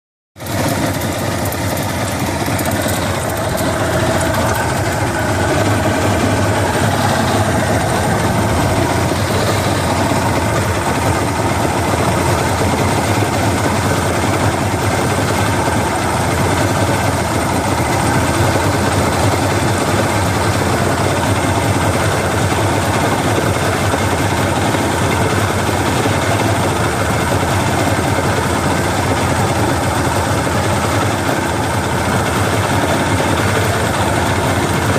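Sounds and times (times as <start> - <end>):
motor rattle: 0.4 - 34.9
outboard motor running: 0.4 - 34.9.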